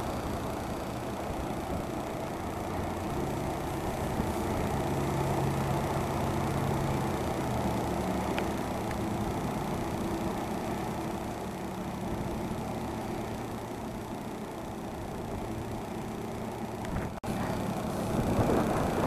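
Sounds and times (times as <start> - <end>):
boat engines running: 0.0 - 19.0.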